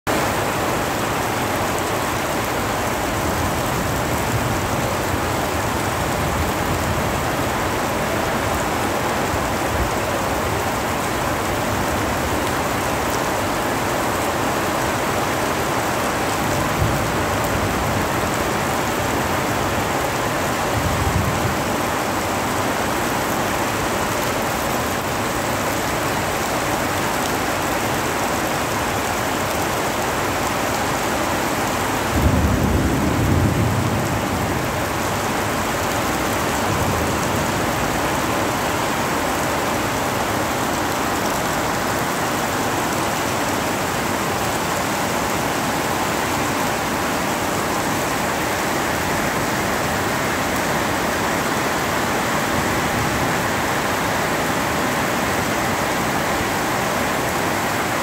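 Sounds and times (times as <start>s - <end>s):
heavy rain on paving: 0.0s - 58.0s.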